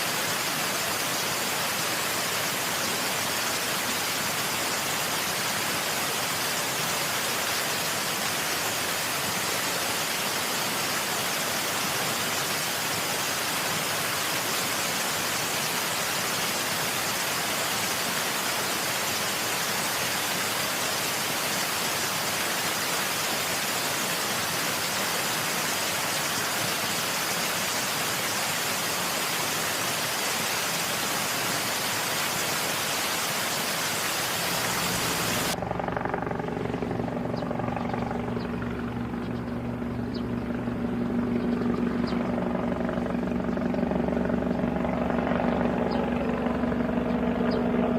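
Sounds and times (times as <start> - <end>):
steady rushing noise: 0.0 - 47.9.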